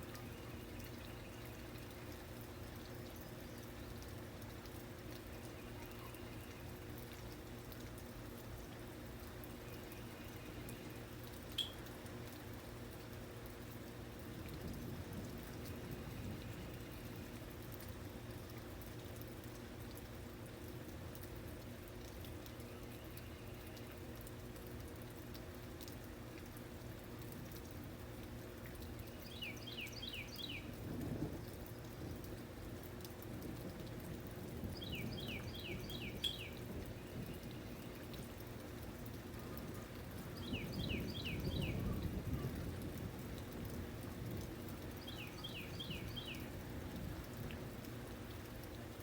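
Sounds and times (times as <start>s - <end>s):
steady rain: 0.0s - 49.0s.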